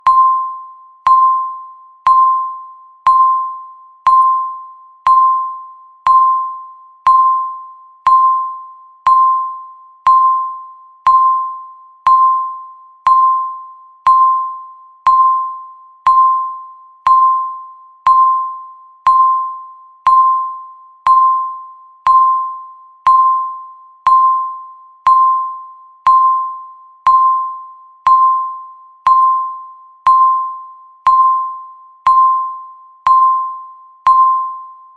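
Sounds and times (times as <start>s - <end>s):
timer ticking tone: 0.0s - 34.9s.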